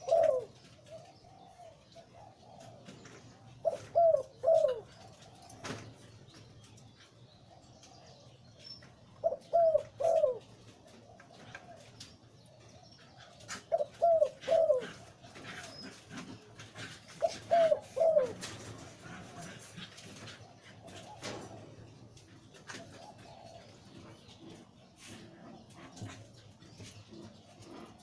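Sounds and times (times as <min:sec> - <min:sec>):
dove cooing: 0:00.0 - 0:06.1, 0:09.1 - 0:28.0.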